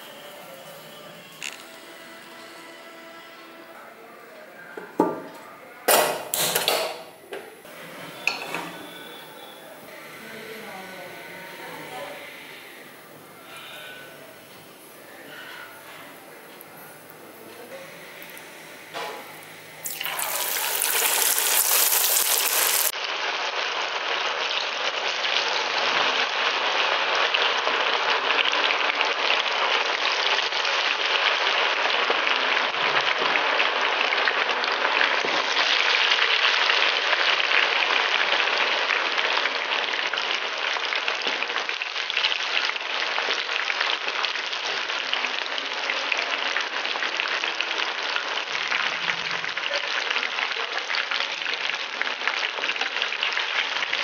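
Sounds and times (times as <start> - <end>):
oil sizzling and crackling: 0.0 - 3.8, 4.8 - 54.0.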